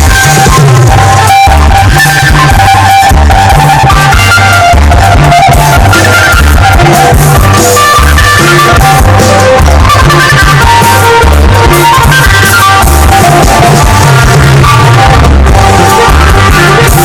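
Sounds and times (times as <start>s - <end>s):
bass: 0.0s - 17.0s
drum kit: 0.0s - 17.0s
guitar: 0.0s - 17.0s.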